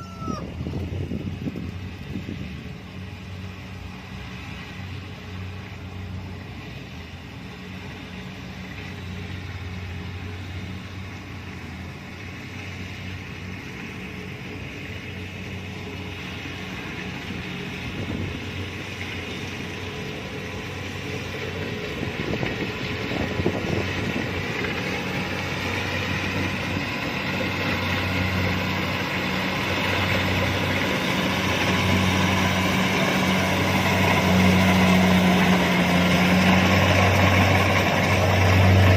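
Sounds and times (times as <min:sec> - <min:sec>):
combine harvester engine and machinery: 0:00.0 - 0:38.9.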